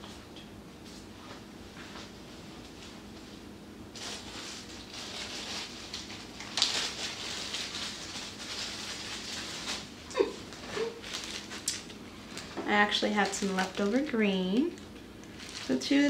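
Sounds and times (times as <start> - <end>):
rustling handling noise: 0.8 - 16.0.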